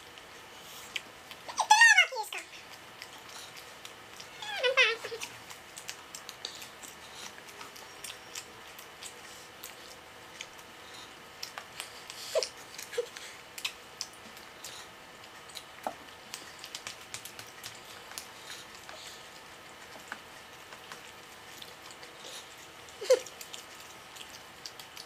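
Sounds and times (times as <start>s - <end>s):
people chewing: 0.0s - 1.5s, 2.4s - 25.0s.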